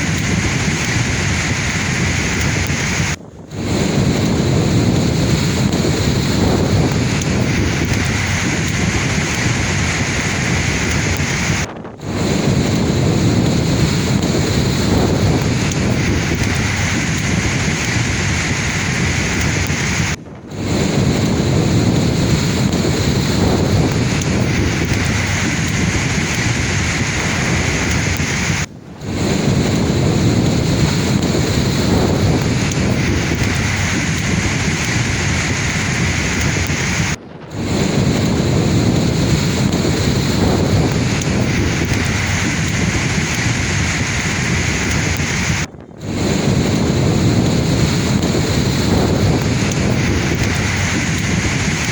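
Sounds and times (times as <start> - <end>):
sea waves surging: 0.0 - 51.9
wind buffeting microphone: 0.0 - 51.9.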